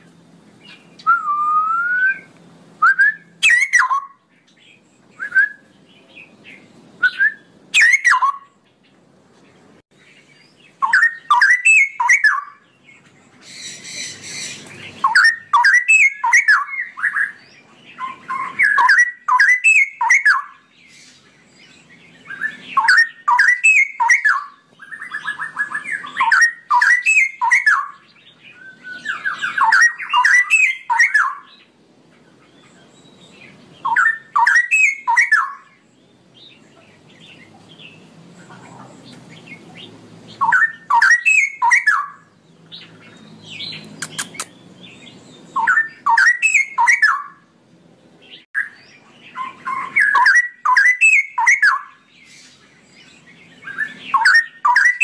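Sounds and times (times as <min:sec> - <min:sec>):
bird singing warbling song: 0:00.0 - 0:55.0.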